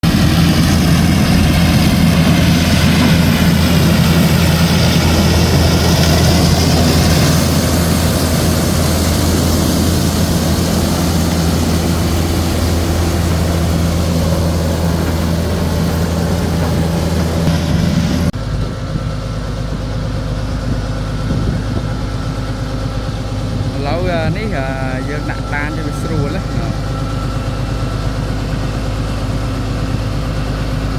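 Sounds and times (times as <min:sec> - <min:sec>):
harvester engine droning: 0:00.0 - 0:30.9.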